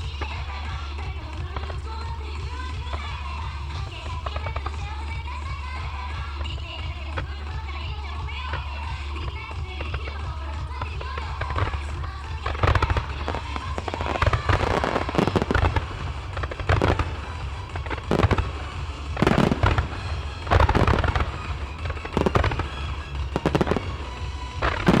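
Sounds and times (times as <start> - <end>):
fireworks bursting and crackling: 0.0 - 25.0
music playing: 0.0 - 25.0.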